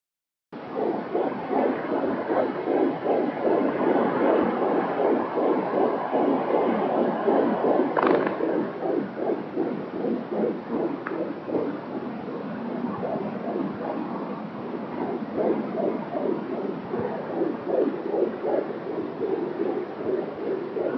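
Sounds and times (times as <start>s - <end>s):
fetal heartbeat pulses: 0.6s - 20.9s.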